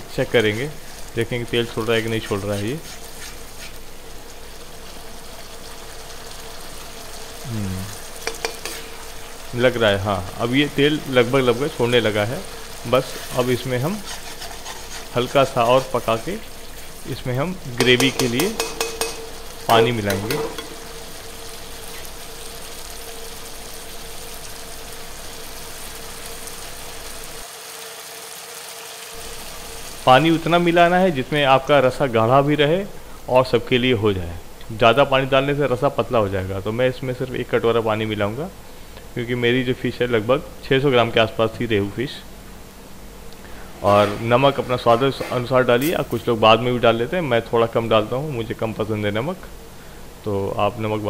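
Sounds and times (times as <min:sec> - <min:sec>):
spice paste sizzling in oil: 0:00.0 - 0:43.6, 0:44.3 - 0:51.0.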